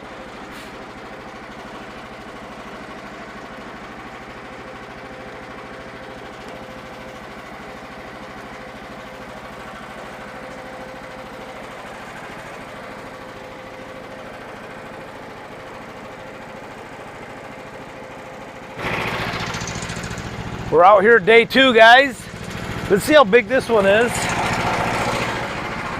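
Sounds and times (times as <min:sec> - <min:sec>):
engine running steadily: 0:00.0 - 0:25.9
loud engine: 0:00.0 - 0:25.9.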